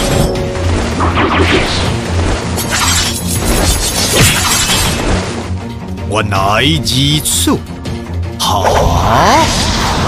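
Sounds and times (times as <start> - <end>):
dramatic fight music: 0.0 - 10.0.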